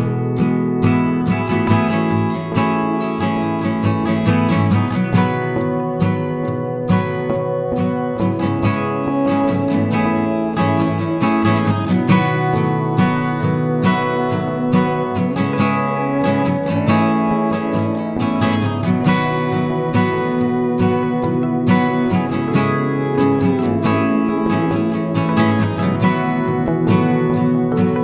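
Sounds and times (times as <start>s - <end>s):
strummed acoustic guitar: 0.0s - 28.0s.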